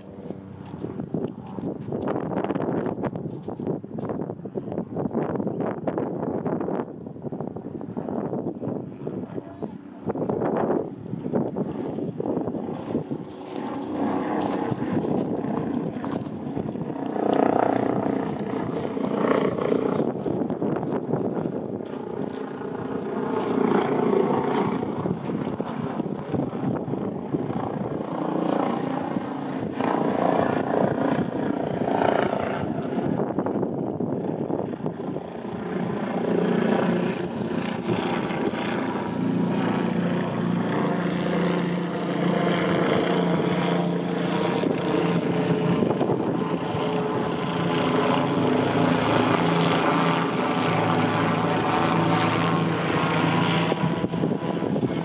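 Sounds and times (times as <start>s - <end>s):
steady engine drone: 0.0s - 55.0s.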